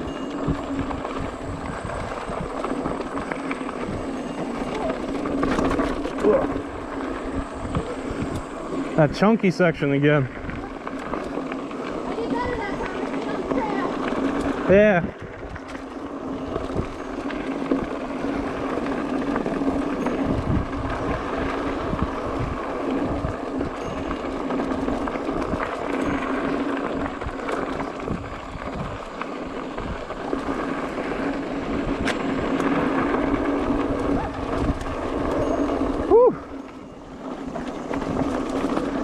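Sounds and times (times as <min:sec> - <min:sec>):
bike bumps and rattles: 0:00.0 - 0:09.3, 0:10.2 - 0:39.0
bike tyres crunching over stones: 0:00.0 - 0:39.0.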